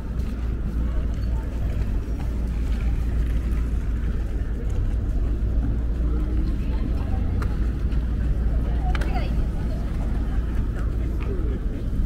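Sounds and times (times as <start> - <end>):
city traffic rumble: 0.0 - 12.0
faint crowd voices: 0.0 - 12.0.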